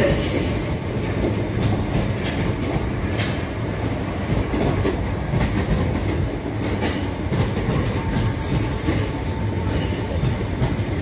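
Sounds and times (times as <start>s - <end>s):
train rumbling on rails: 0.0s - 11.0s
wheels clacking over rail joints: 1.0s - 11.0s.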